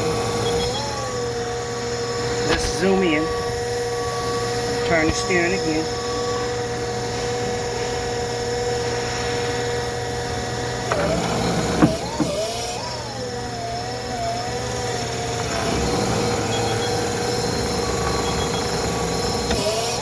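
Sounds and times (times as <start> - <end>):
hydraulic steering whine: 0.0 - 20.0.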